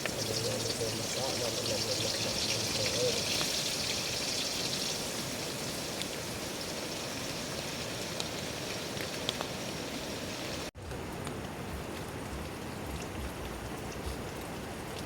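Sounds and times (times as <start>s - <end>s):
dripping water ticks: 0.0s - 5.0s, 5.9s - 9.6s, 10.9s - 15.0s.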